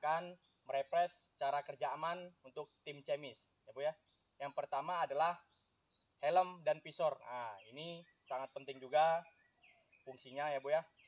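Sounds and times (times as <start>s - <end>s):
man speaking: 0.0s - 5.4s, 6.2s - 9.2s, 10.1s - 10.9s
insects droning: 0.0s - 11.0s.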